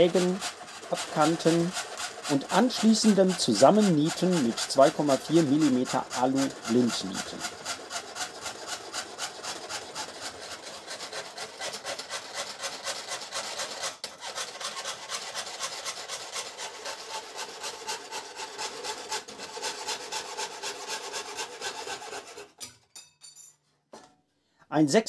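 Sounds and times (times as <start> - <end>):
fret saw rasping through sheet metal: 0.0 - 22.9.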